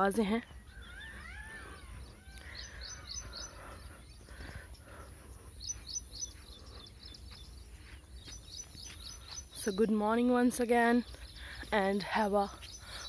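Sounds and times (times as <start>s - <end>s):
birds singing and chirping: 0.0s - 13.0s.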